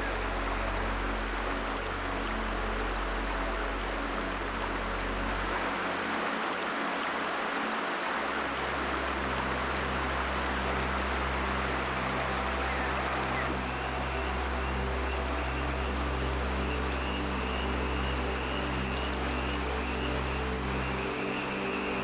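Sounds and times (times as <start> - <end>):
river flowing over rocks: 0.0 - 22.0.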